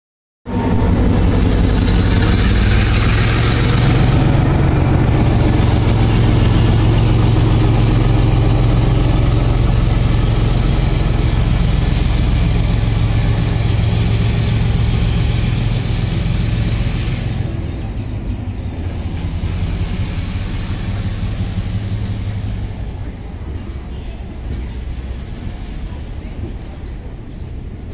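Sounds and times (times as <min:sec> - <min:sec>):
diesel locomotive engine drone: 0:00.4 - 0:27.9.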